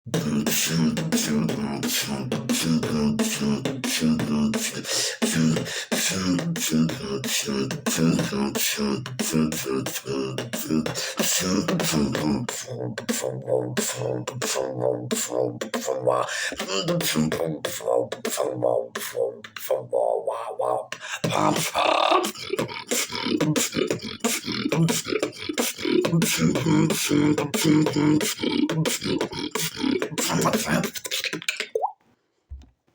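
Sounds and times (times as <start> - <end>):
person beatboxing: 0.1 - 31.9.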